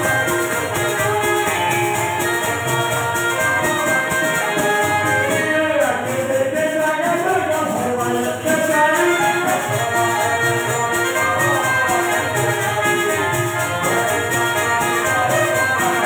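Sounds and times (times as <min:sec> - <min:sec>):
hand drum: 0:00.0 - 0:16.0
harmonium and keyboard melody: 0:00.0 - 0:16.0
jingling percussion: 0:00.0 - 0:16.0
person singing: 0:00.0 - 0:16.0.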